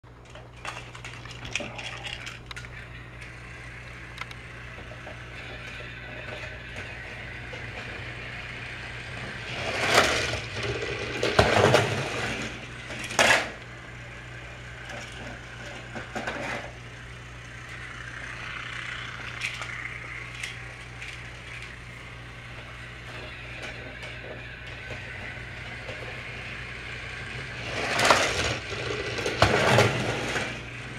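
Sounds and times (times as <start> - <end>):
toy train motor hum: 0.2 - 30.9
toy train rattling on track: 0.2 - 30.9.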